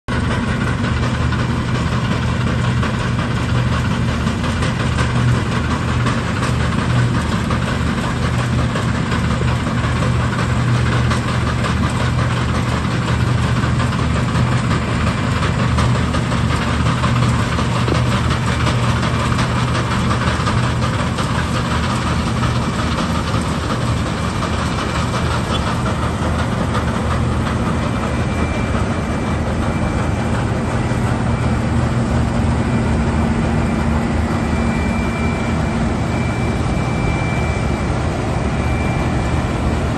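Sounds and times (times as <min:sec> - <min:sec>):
combine harvester diesel engine hum: 0:00.1 - 0:39.9
threshing machinery noise: 0:00.1 - 0:39.9.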